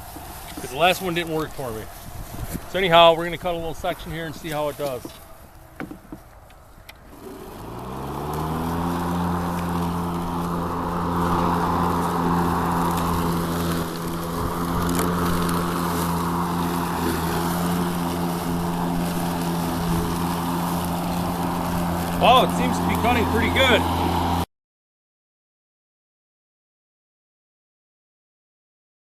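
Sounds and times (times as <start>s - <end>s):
electric lawn mower humming: 0.0s - 24.5s.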